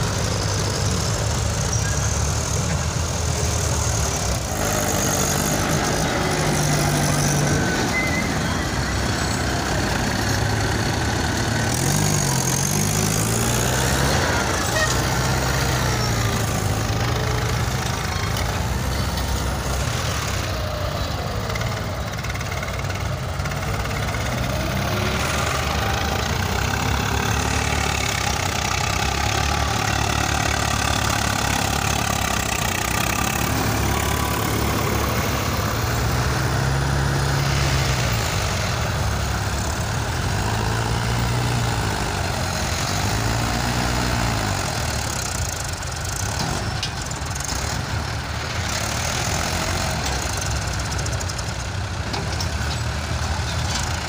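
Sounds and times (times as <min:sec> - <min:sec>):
tractor engines under load: 0:00.0 - 0:54.0.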